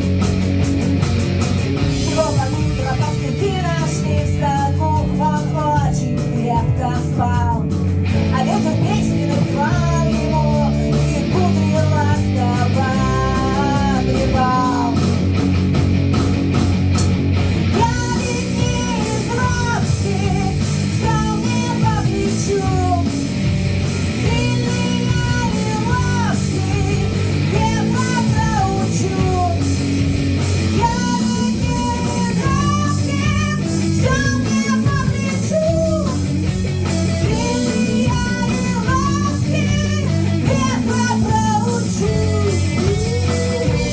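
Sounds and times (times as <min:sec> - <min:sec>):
rock band playing: 0:00.0 - 0:43.9
person singing: 0:02.0 - 0:15.3, 0:17.7 - 0:23.2, 0:24.2 - 0:29.8, 0:30.7 - 0:43.9.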